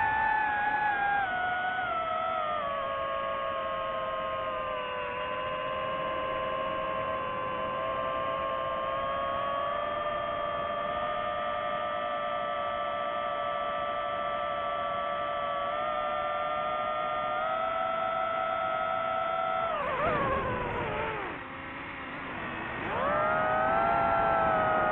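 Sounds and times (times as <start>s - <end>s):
drone propellers whining: 0.0s - 24.9s.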